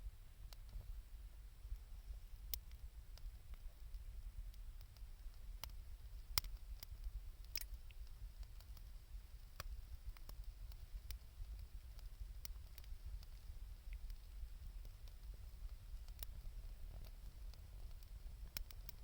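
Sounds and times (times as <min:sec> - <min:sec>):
campfire crackling: 0:00.4 - 0:19.0.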